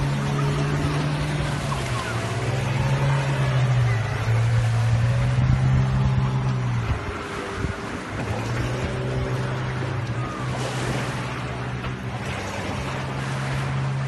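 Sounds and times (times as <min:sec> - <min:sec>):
outboard motor running: 0:00.0 - 0:14.0
water noise: 0:00.0 - 0:14.0
wind: 0:00.0 - 0:14.0.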